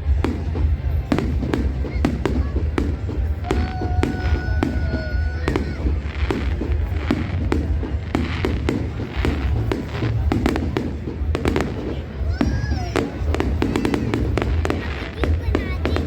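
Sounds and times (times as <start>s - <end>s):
firework whistling: 0.0s - 16.0s
fireworks bangs and crackles: 0.0s - 16.0s.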